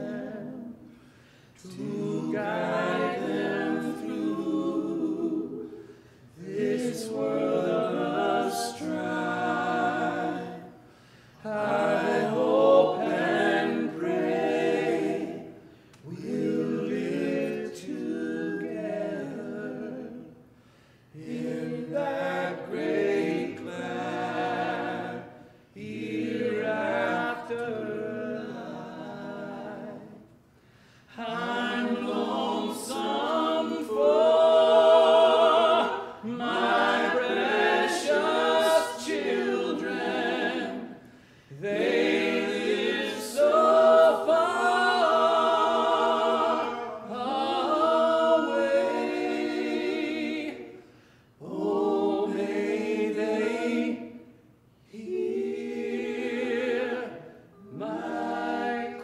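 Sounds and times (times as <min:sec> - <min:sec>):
group singing unaccompanied: 0:00.0 - 0:30.4, 0:31.0 - 0:59.0.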